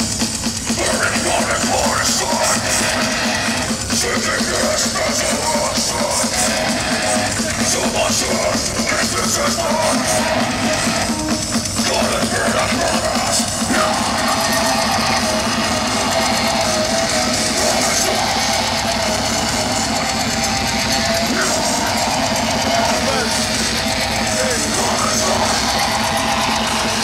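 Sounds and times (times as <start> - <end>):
heavy rock music with electric guitar: 0.0 - 27.0.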